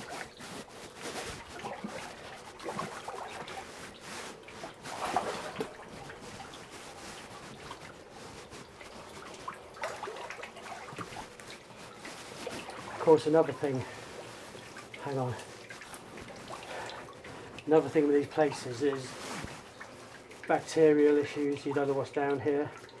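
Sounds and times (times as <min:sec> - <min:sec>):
water splash: 0:00.0 - 0:20.7
water trickling and dripping: 0:00.0 - 0:23.0.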